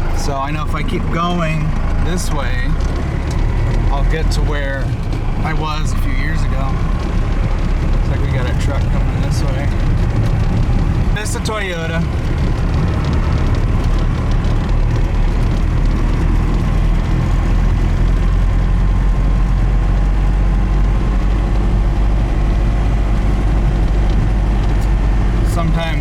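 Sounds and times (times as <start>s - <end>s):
truck engine and tyres rumbling: 0.0s - 26.0s.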